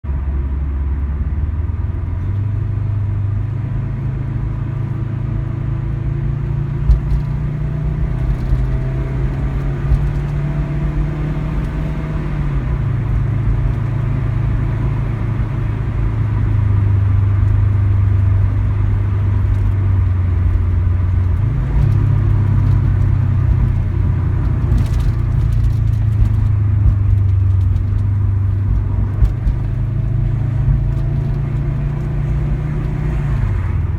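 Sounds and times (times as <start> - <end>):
car engine rumbling under acceleration: 0.0 - 33.9.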